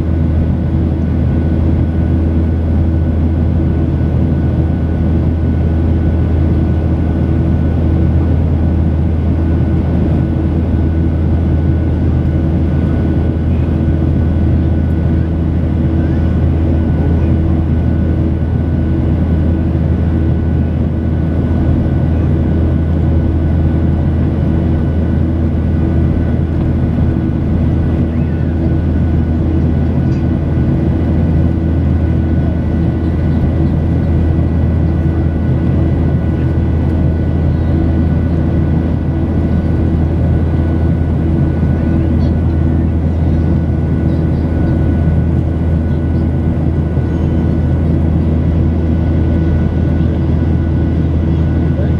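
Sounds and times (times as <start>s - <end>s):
jet engine cabin rumble: 0.0s - 51.9s
steady whining tones: 7.1s - 51.9s.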